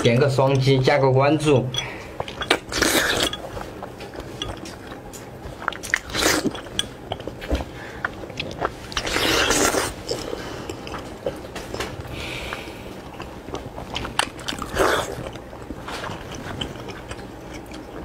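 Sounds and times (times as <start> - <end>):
person chewing with wet clicks: 0.0 - 18.0.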